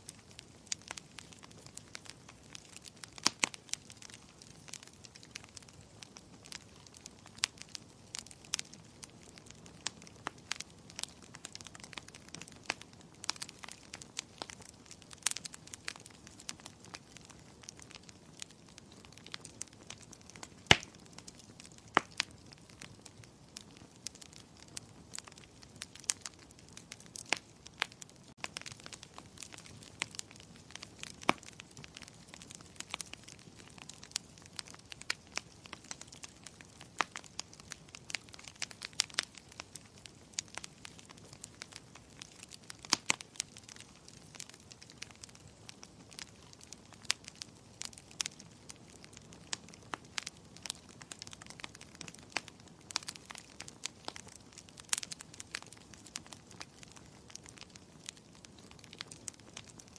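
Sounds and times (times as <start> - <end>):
faint steady hiss: 0.0 - 54.0
wood fire crackling: 0.0 - 59.9.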